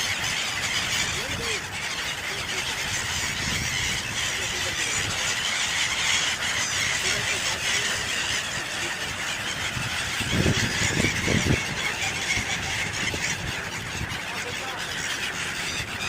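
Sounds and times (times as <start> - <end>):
flock of waterbirds calling: 0.0 - 16.0.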